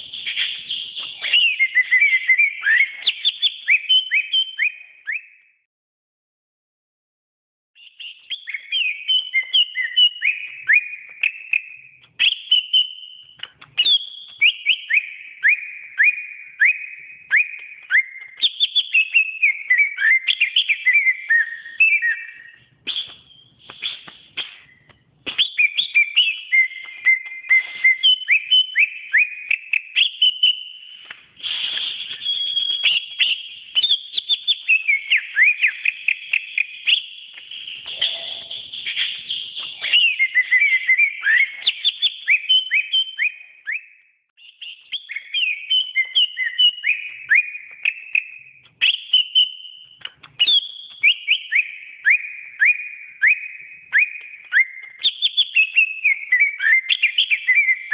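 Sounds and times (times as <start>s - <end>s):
bird singing whistled notes: 0.0s - 5.6s, 7.8s - 57.9s.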